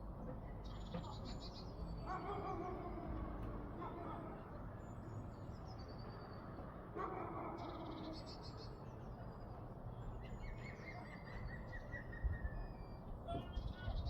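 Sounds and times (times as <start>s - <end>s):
songbirds chirping: 0.1s - 14.0s.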